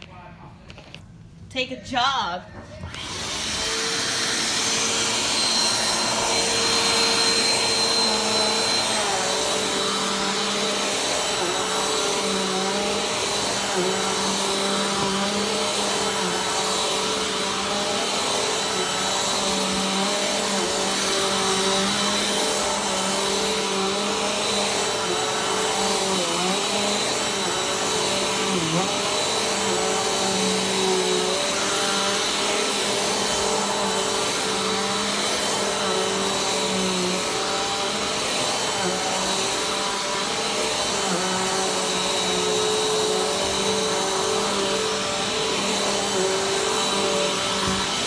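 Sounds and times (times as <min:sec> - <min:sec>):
vacuum cleaner running on carpet: 0:02.8 - 0:48.0.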